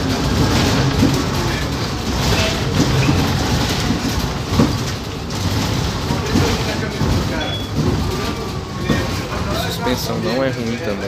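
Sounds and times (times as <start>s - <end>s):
bus fittings rattling and knocking: 0.0s - 11.0s
bus road rumble: 0.0s - 11.0s.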